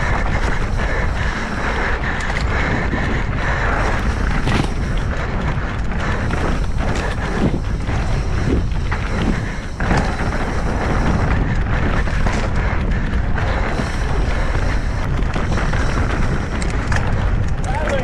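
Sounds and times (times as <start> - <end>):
bike clattering over rocks: 0.0 - 18.0
tyres rolling on loose dirt: 0.0 - 18.0
wind buffeting microphone: 0.0 - 18.0.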